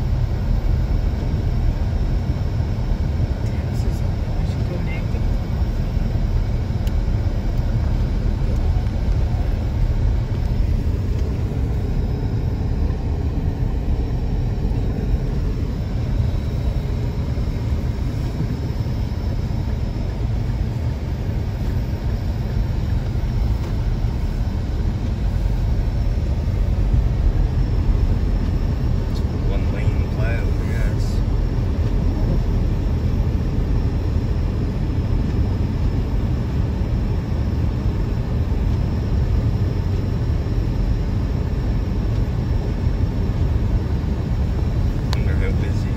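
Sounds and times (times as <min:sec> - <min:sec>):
car driving on snowy road: 0:00.0 - 0:45.9.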